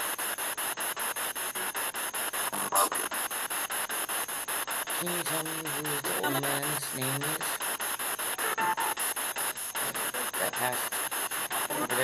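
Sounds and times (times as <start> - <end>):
pulsing radio static: 0.0 - 12.0
broadcast voice snatch: 1.4 - 12.0.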